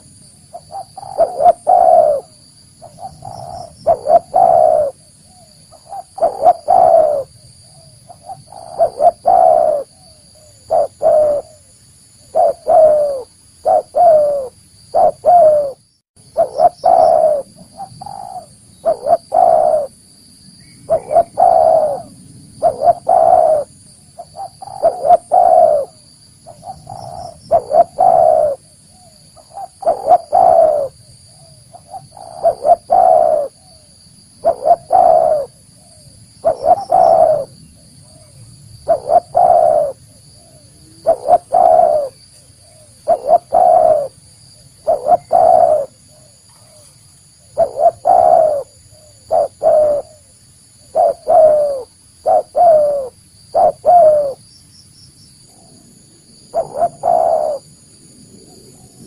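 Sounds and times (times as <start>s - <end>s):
dove cooing: 0.0s - 20.0s, 20.8s - 44.2s, 44.8s - 54.4s, 56.4s - 57.8s.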